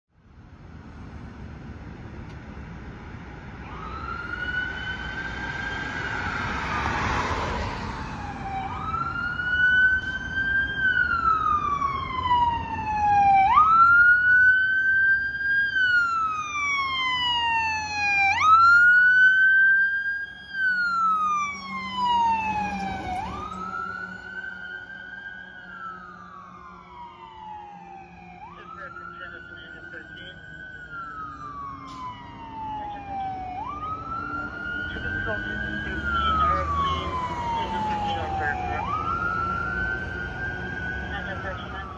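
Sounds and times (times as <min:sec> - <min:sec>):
road traffic rumble: 0:00.1 - 0:41.9
fire engine siren wailing: 0:03.4 - 0:41.9.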